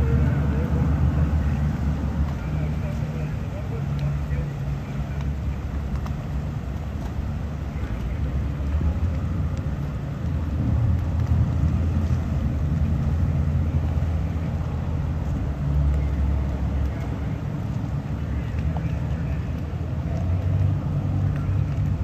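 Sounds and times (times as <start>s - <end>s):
wind noise: 0.0s - 18.8s
boat engines rumbling: 0.0s - 22.0s.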